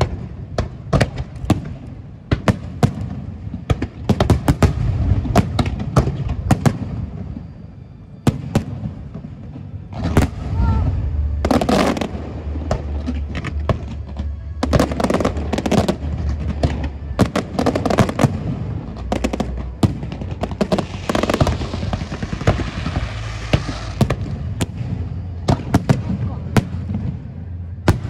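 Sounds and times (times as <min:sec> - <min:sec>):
fireworks bangs and pops: 0:00.0 - 0:07.2, 0:11.4 - 0:27.2
fireworks crackling: 0:00.0 - 0:28.0
low rumble: 0:00.0 - 0:28.0.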